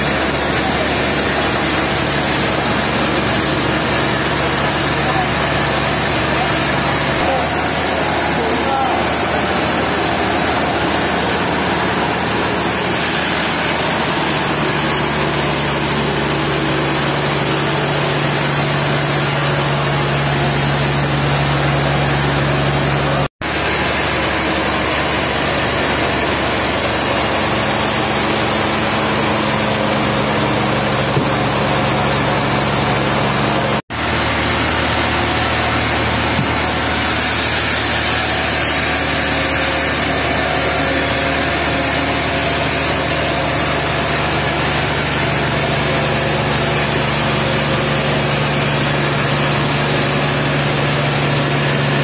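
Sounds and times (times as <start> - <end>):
sawmill machinery hum: 0.0 - 52.0.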